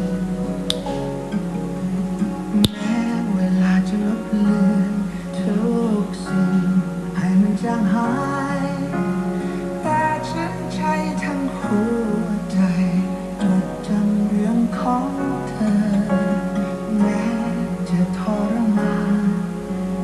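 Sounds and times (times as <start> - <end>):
person singing: 0.0 - 20.0
plucked acoustic guitar: 0.0 - 20.0.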